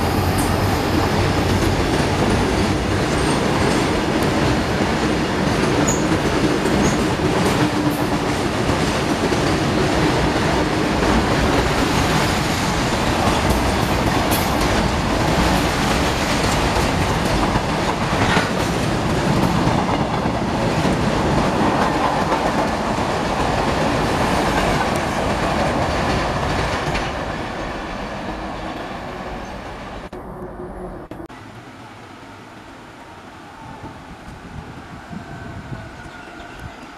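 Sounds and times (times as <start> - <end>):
freight train rumbling: 0.0 - 36.9.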